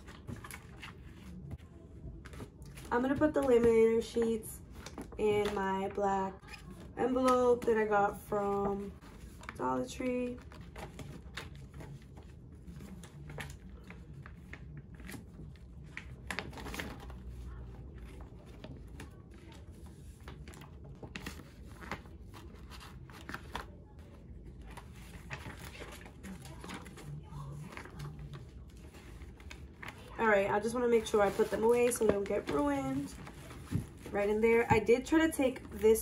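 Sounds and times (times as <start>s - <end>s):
plastic sheets rustling: 0.0s - 36.0s.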